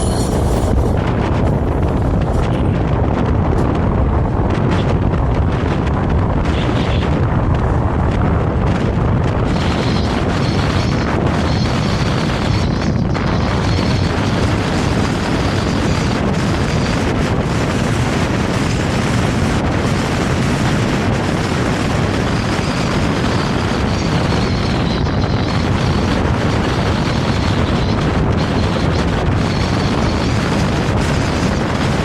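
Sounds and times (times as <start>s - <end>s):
tram wheels rumbling on rails: 0.0s - 32.0s.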